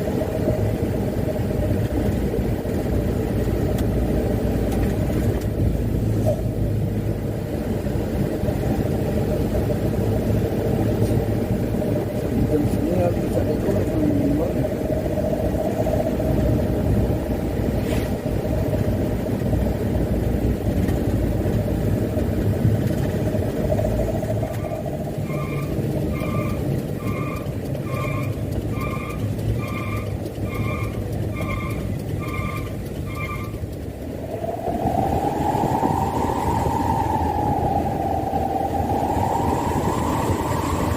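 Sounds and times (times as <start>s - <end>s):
diesel truck engine running: 0.0s - 40.9s
drivetrain whine: 0.0s - 40.9s.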